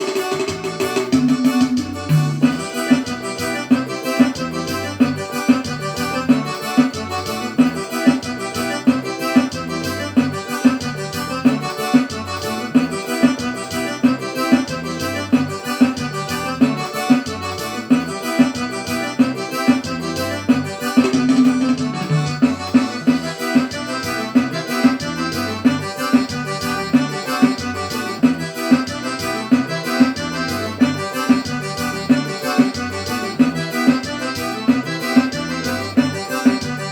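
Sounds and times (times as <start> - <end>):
electronic keyboard music: 0.0 - 36.9
steady repeating beat: 0.0 - 36.9.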